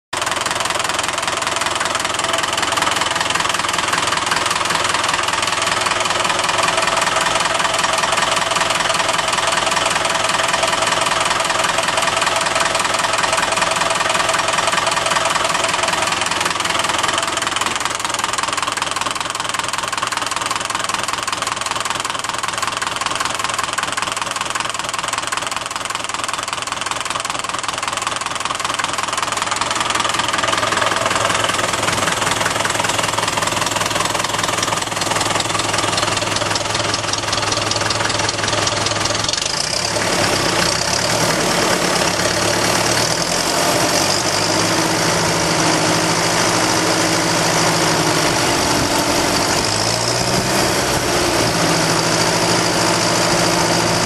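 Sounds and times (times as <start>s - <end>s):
tractor diesel engine idling: 0.1s - 54.0s.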